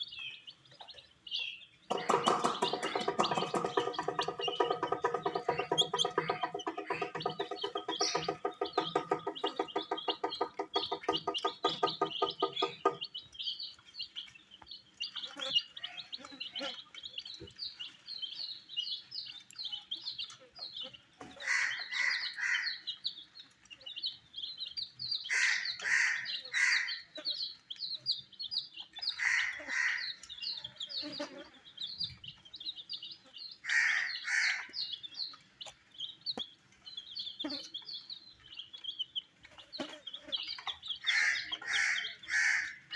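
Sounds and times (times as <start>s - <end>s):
chicks peeping: 0.0s - 42.9s.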